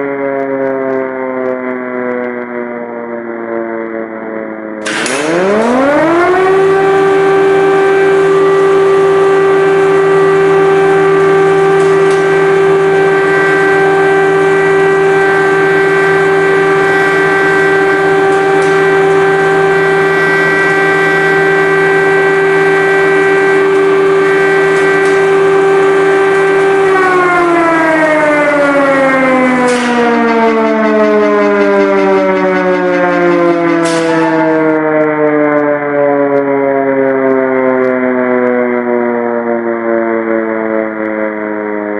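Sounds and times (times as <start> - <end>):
air-raid siren wailing: 0.0 - 41.9.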